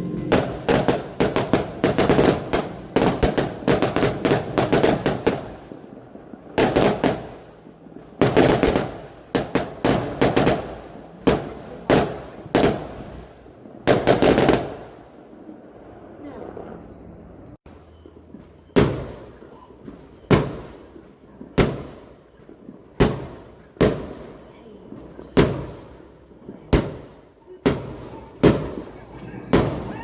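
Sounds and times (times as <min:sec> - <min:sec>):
fireworks bangs and crackles: 0:00.0 - 0:16.7, 0:17.7 - 0:30.0.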